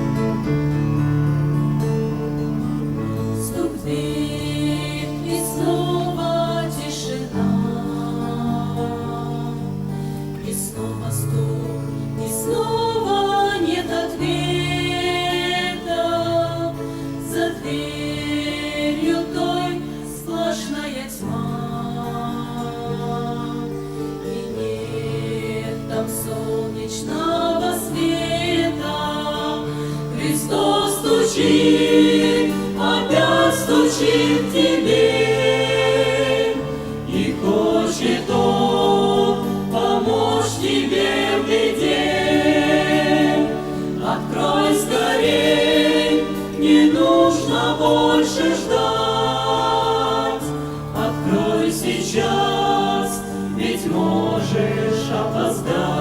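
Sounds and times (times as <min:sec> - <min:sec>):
choir singing gospel song: 0:03.1 - 0:56.0.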